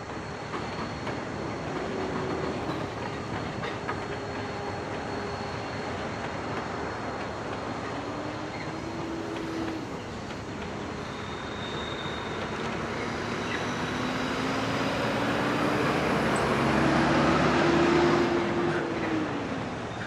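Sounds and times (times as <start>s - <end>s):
diesel locomotive engine passing: 0.0s - 20.0s.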